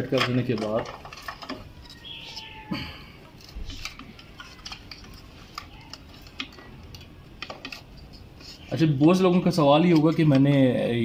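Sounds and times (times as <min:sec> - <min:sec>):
rustling wires: 0:00.0 - 0:10.8.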